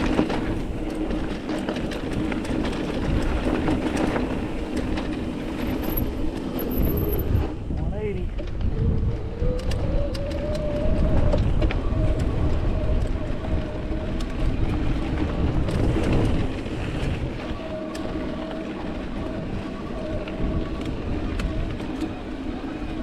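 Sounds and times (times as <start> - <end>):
bike tyre rumble: 0.0 - 23.0
clicks and rattles of bike: 0.0 - 23.0
wind: 0.0 - 23.0.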